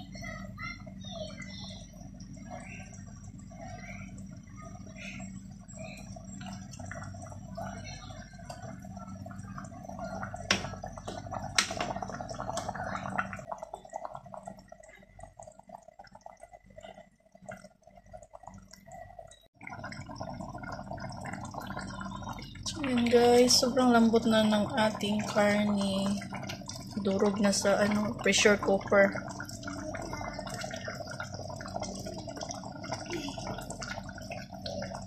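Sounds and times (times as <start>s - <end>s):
low hum: 0.0s - 35.0s
stew bubbling in a pot: 0.0s - 35.0s.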